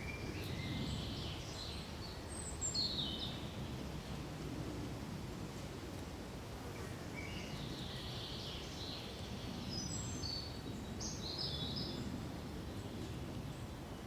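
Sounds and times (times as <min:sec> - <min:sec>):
wind in pine trees: 0:00.0 - 0:14.0.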